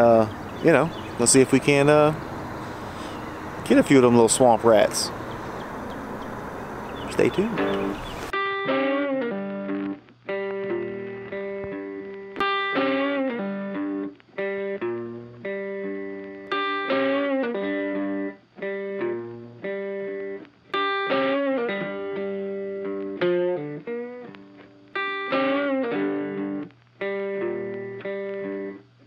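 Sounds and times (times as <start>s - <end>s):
plucked guitar tune: 0.0s - 29.0s.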